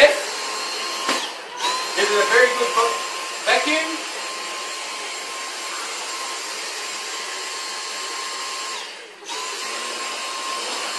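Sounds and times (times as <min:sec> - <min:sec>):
cordless vacuum whining: 0:00.0 - 0:10.9.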